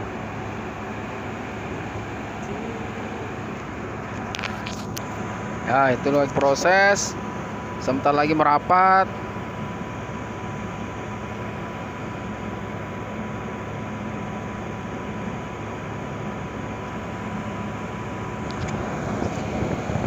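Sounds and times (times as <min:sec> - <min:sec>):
ship engines rumbling: 0:00.0 - 0:20.0.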